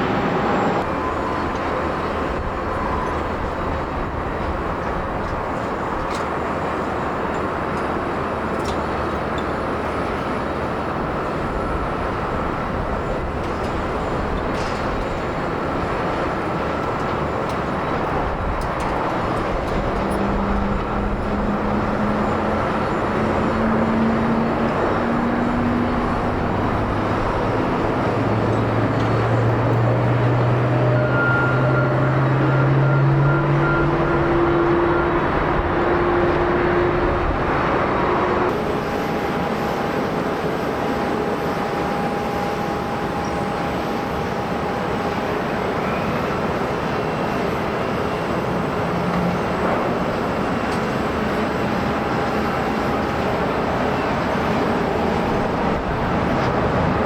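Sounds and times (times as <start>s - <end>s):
jet engine whine: 0.0s - 57.0s
jet engines roaring: 0.0s - 57.0s.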